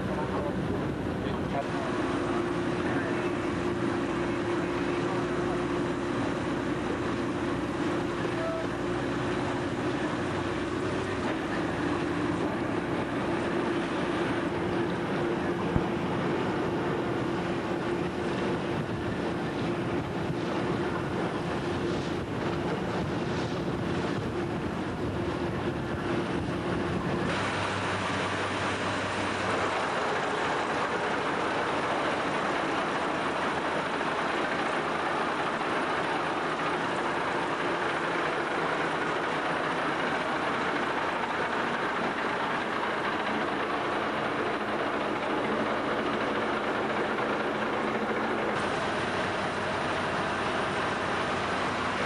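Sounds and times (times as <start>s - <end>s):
boat engine running: 0.0s - 52.0s
water noise: 0.0s - 52.0s
wind: 0.0s - 52.0s.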